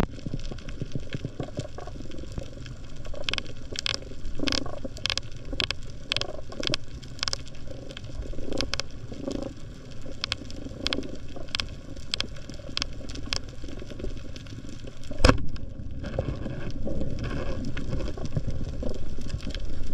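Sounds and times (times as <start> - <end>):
low rumble of water: 0.0 - 19.9
underwater crackle of clicks: 0.0 - 19.9.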